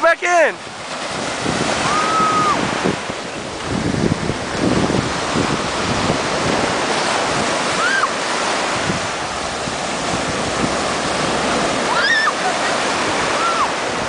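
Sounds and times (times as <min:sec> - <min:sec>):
ocean surf breaking: 0:00.0 - 0:14.0
wind buffeting microphone: 0:00.6 - 0:14.0.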